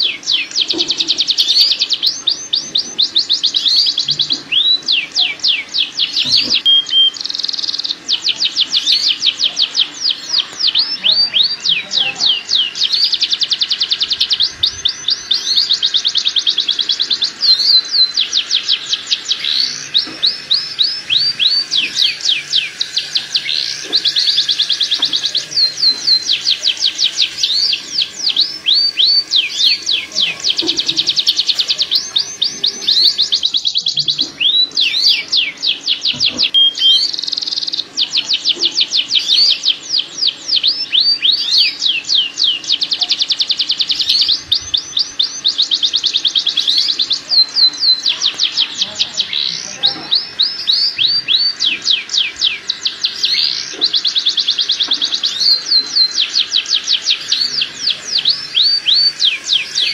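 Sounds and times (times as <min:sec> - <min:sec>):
canary singing long rolling trills: 0:00.0 - 0:59.9.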